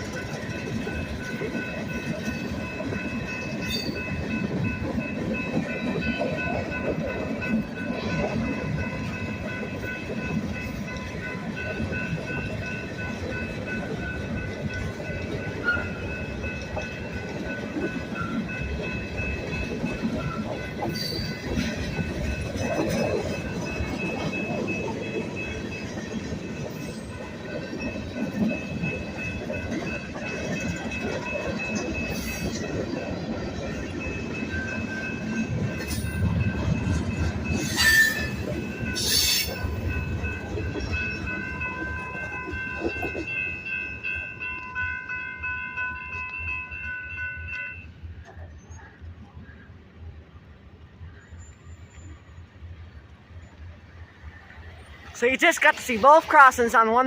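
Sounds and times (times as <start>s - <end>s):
railroad crossing bell ringing: 0.0s - 48.3s, 54.8s - 57.0s
train wheels clattering on rails: 0.0s - 49.9s.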